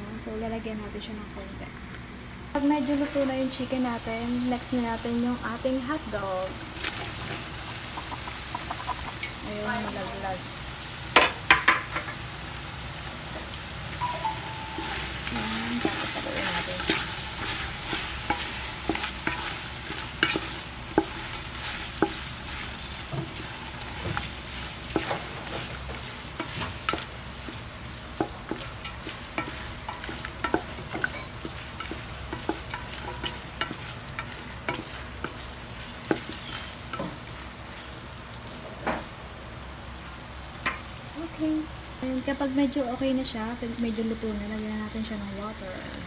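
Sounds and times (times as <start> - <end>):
meat sizzling in a pot: 2.5 - 46.0.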